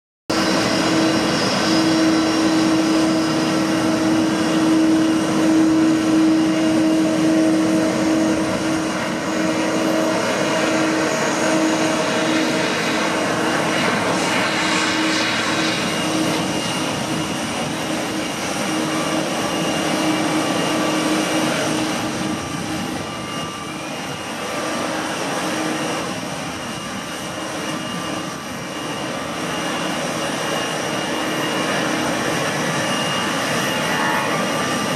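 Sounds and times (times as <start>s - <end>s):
jet engines taxiing: 0.3s - 34.9s.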